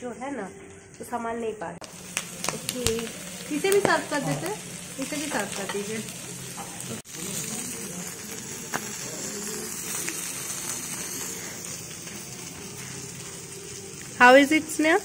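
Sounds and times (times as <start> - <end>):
food sizzling on hot plate: 1.8 - 15.0.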